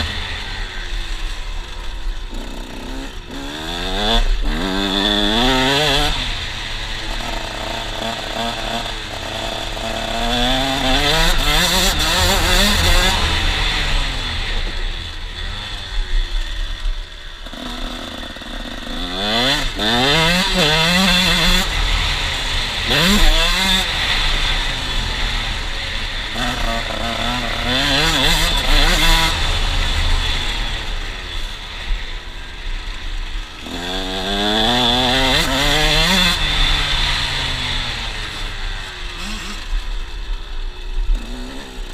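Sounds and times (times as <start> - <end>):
two-stroke motocross engine revving: 0.0 - 41.9.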